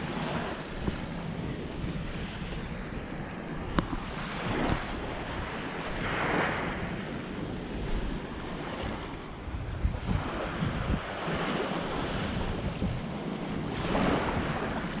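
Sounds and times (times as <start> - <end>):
water waves splashing: 0.0 - 15.0
wind buffeting microphone: 0.0 - 15.0.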